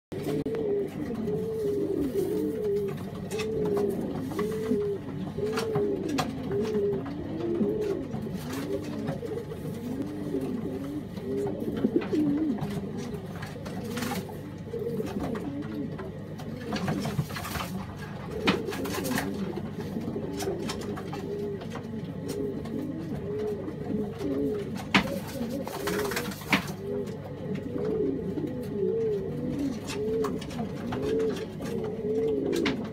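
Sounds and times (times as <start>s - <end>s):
pigeon cooing: 0.1s - 32.9s.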